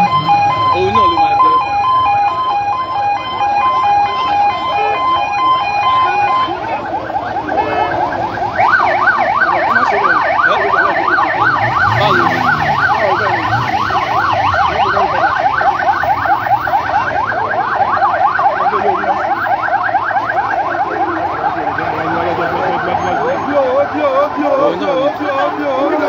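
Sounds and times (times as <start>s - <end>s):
electronic siren yelping: 0.0s - 26.0s.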